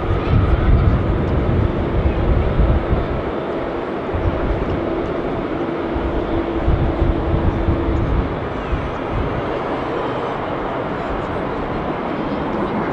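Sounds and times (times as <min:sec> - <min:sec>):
distant jet engines taxiing: 0:00.0 - 0:12.9.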